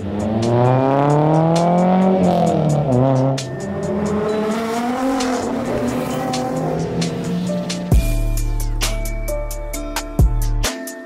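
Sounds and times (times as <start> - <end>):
car engines running: 0.0 - 9.8
background music ticking beat: 0.0 - 11.0.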